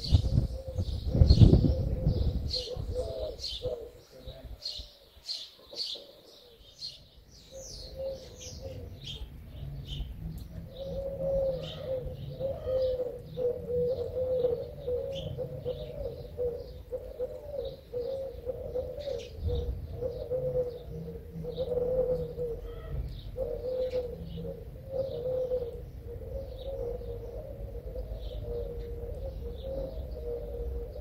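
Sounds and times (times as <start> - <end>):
doves cooing: 0.0 - 31.0
small birds chirping: 0.0 - 31.0.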